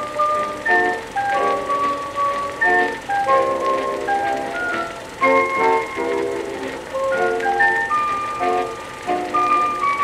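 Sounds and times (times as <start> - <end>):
melody over chords: 0.0 - 10.0.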